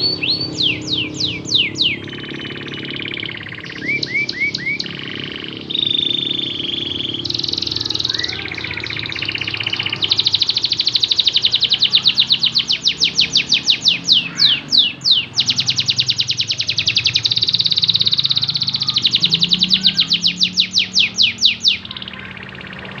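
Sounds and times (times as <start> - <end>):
canary singing trills: 0.0 - 23.0.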